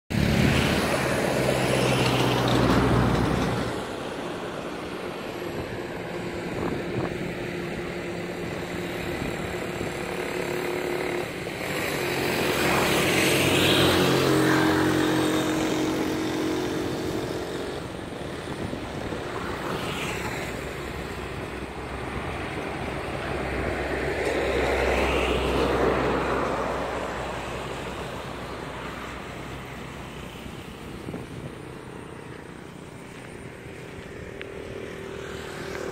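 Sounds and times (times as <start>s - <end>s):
motor vehicles passing: 0.1s - 35.9s.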